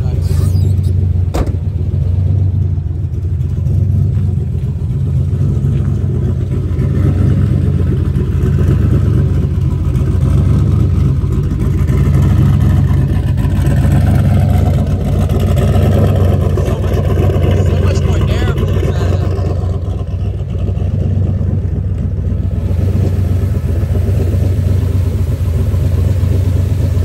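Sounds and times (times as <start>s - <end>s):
engine idling deep rumble: 0.0s - 27.0s.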